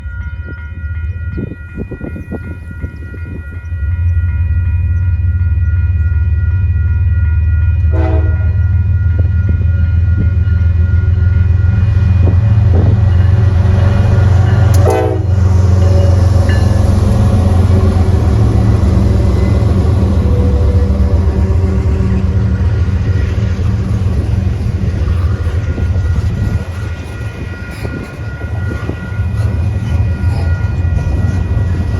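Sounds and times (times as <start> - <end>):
diesel locomotive rumble: 0.0 - 31.9
multi-tone train horn: 3.9 - 31.9.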